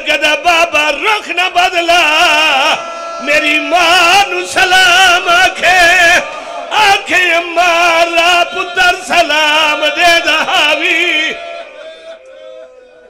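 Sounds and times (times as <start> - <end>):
man chanting with vibrato: 0.0 - 13.0.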